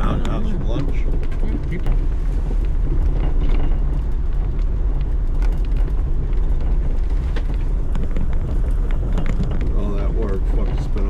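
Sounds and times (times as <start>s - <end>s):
knocks and rattles: 0.0s - 11.0s
utility vehicle engine running: 0.0s - 11.0s.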